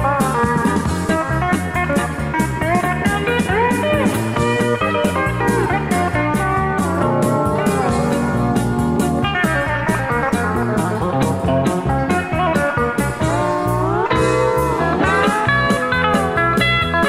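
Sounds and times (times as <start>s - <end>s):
bass line: 0.0s - 17.0s
electric guitar: 0.0s - 17.0s
pedal steel guitar: 0.0s - 17.0s
steady drum beat: 0.0s - 17.0s.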